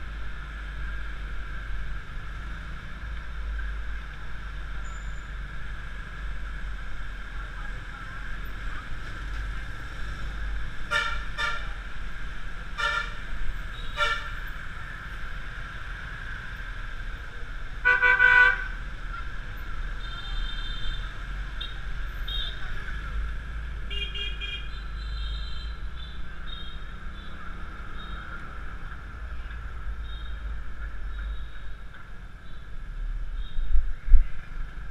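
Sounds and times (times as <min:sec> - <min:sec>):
road noise: 0:00.0 - 0:34.9.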